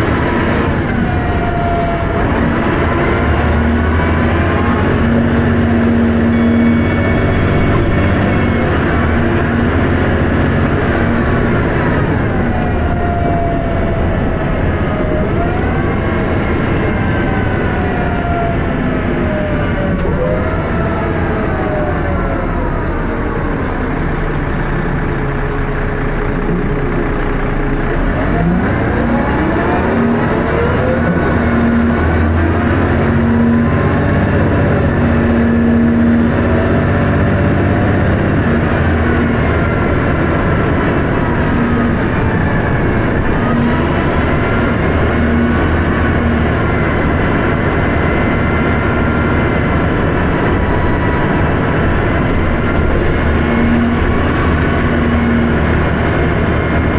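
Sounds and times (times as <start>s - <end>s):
bus diesel engine: 0.0s - 56.9s.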